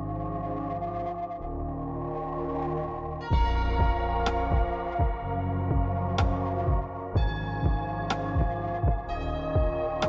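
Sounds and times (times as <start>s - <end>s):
ambient music with sustained chords: 0.0s - 10.0s
slow low pulse: 0.0s - 10.0s.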